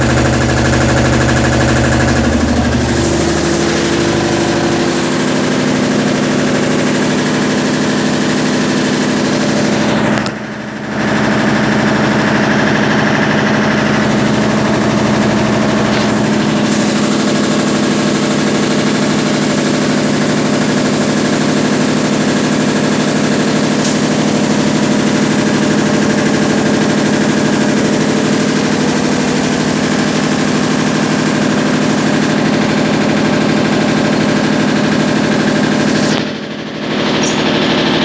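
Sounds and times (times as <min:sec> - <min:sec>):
washing machine hum and rattle: 0:00.0 - 0:38.0.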